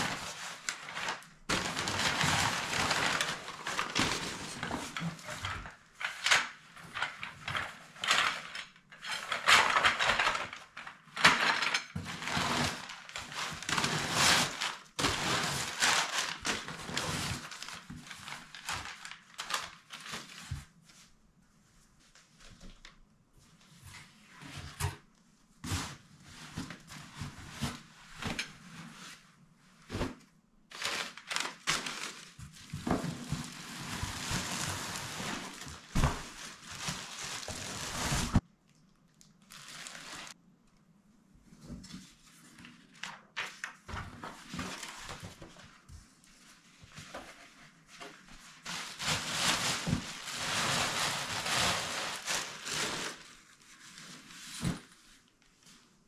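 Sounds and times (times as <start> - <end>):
plastic wrap and canvas crinkling: 0.0 - 21.2, 29.8 - 40.4, 41.8 - 56.0.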